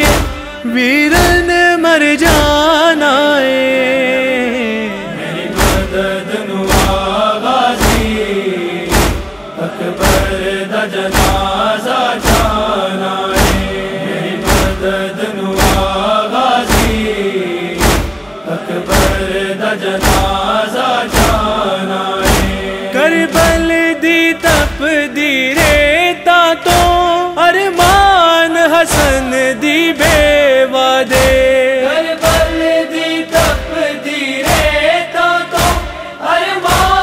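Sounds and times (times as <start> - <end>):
deep rhythmic thumps: 0.0 - 3.0, 5.0 - 37.0
male voices chanting: 0.0 - 37.0.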